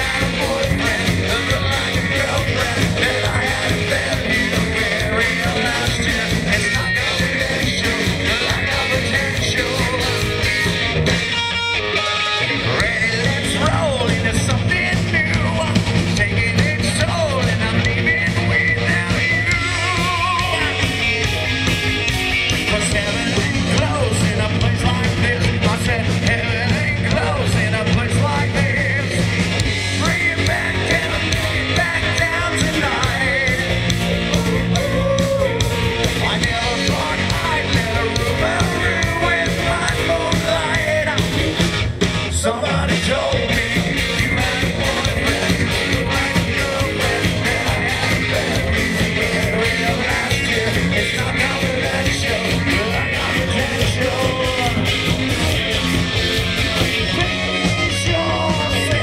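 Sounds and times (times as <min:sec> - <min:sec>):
steady drum beat: 0:00.0 - 0:12.0, 0:12.6 - 0:59.0
bass: 0:00.0 - 0:59.0
rock song with singer: 0:00.0 - 0:59.0.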